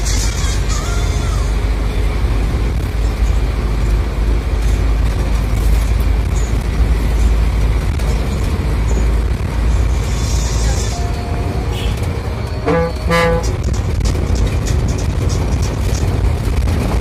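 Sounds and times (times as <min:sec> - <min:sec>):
bus engine rumble inside cabin: 0:00.0 - 0:17.0.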